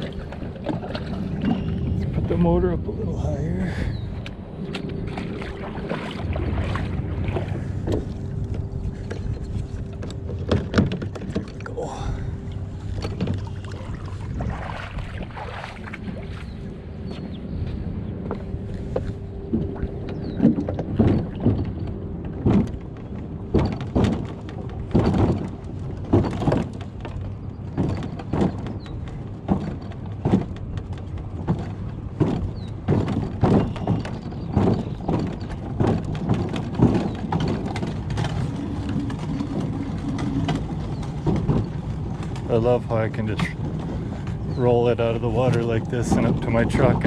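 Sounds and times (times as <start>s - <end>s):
plastic boat thunking and rattling: 0.0s - 2.8s, 3.8s - 47.0s
rolling rumble on concrete: 0.0s - 15.3s, 16.0s - 47.0s.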